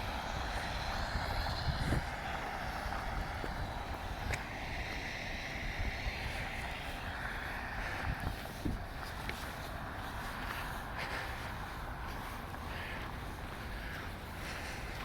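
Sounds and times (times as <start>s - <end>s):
city street noise: 0.0s - 15.0s
wind buffeting microphone: 0.0s - 15.0s.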